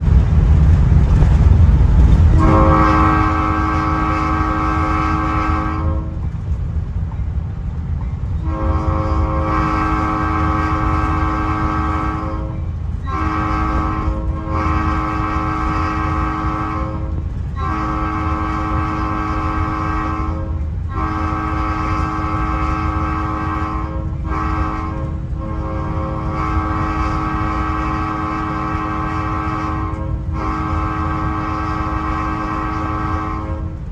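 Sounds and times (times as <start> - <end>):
locomotive low rumble: 0.0 - 33.9
locomotive air horn chord: 2.3 - 6.2, 8.4 - 33.9.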